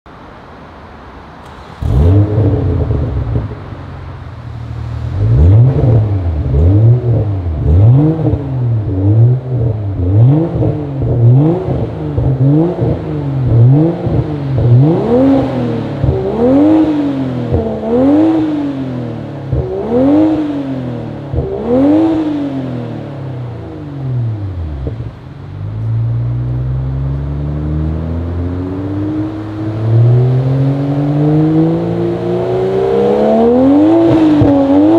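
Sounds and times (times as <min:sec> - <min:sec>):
car engine starting and revving: 0:01.4 - 0:34.9.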